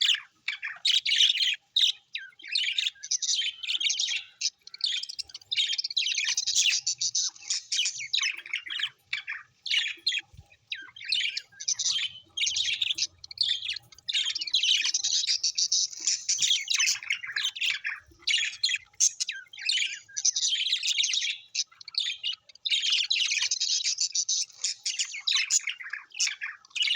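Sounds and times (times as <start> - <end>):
birds chirping and squawking: 0.0 - 26.9.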